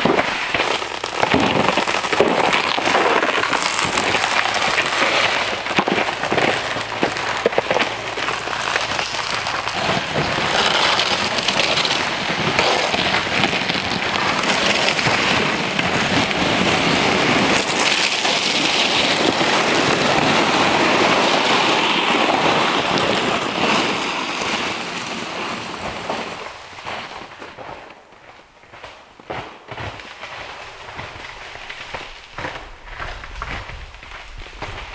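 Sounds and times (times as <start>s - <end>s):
boots crunching in snow: 0.0s - 34.9s
sled scraping over snow: 0.0s - 34.9s.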